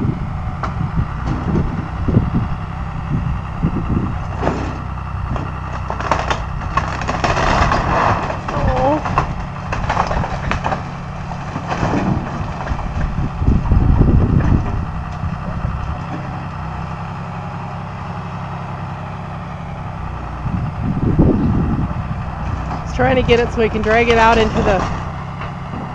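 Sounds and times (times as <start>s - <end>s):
vehicle engine under load: 0.0s - 25.9s.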